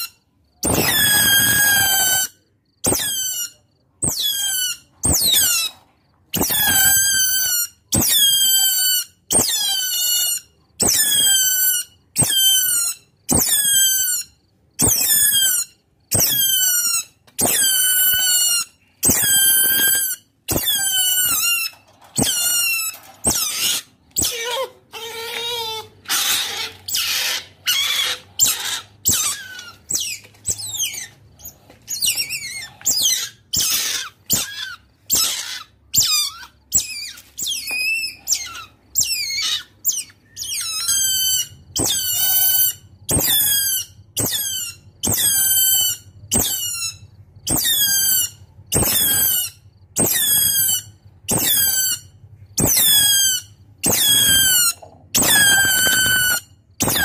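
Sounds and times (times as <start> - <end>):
otter squeaking calls: 0.0 - 57.0.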